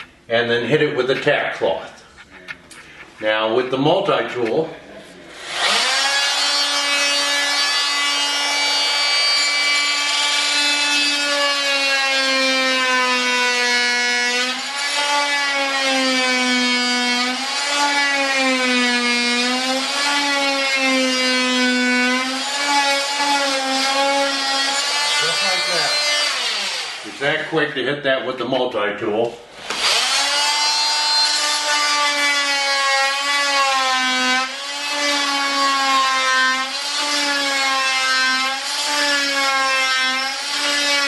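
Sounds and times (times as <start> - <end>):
oscillating multi-tool cutting wood: 5.3 - 27.2, 29.6 - 41.0.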